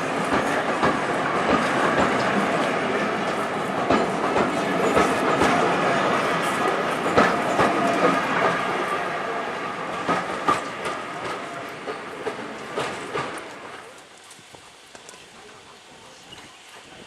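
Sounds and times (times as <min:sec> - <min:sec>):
train carriages running past: 0:00.0 - 0:17.0.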